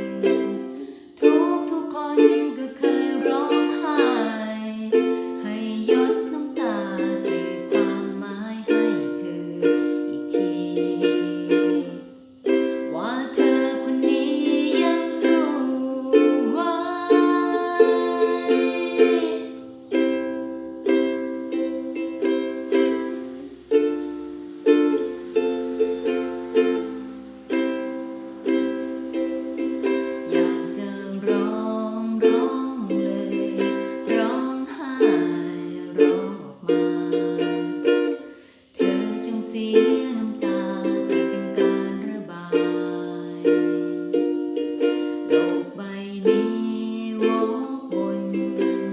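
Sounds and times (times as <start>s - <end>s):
ukulele strumming chords: 0.0s - 48.9s.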